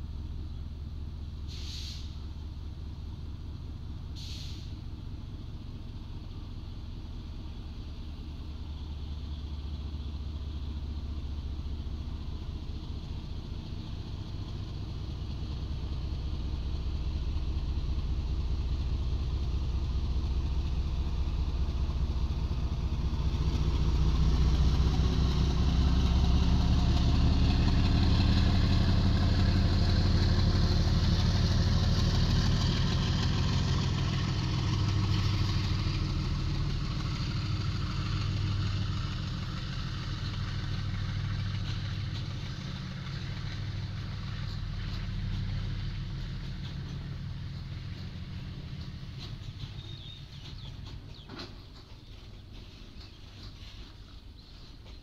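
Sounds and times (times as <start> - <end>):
diesel locomotive engine drone: 0.0 - 55.0
wheels rumbling on rails: 0.0 - 55.0.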